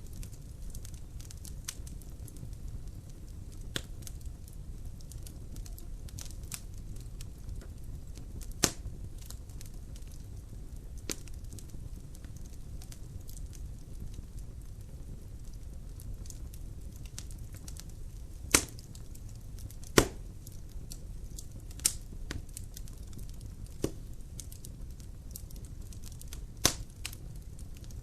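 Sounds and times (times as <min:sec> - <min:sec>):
logs crackling in fire: 0:00.0 - 0:28.0
loud fire pops: 0:00.0 - 0:28.0
low fire rumble: 0:00.0 - 0:28.0.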